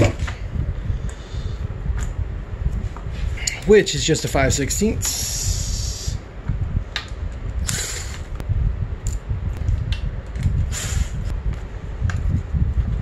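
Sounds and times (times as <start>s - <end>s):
low rumble: 0.0s - 3.7s, 4.4s - 13.0s.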